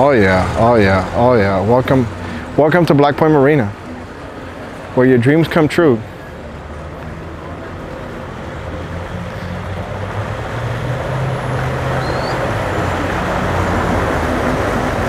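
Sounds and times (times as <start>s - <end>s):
boat engine humming: 0.0s - 15.0s
water churning: 0.0s - 15.0s.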